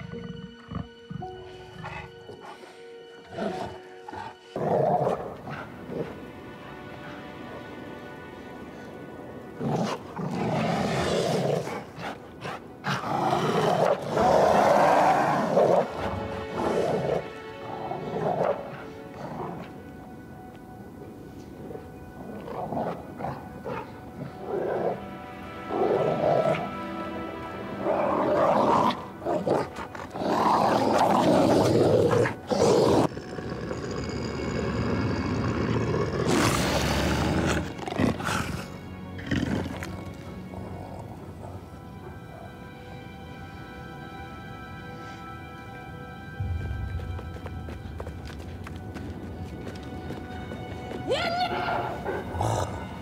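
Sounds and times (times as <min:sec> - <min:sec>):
tense film score: 0:00.0 - 0:53.0.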